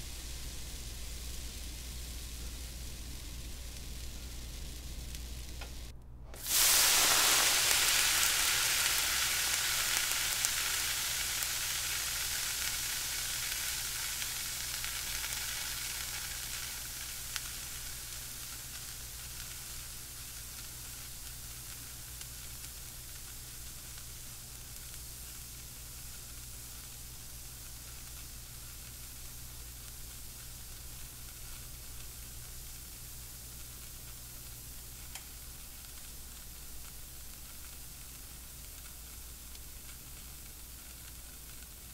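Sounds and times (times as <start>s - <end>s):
water sizzling and hissing: 0.0s - 41.9s.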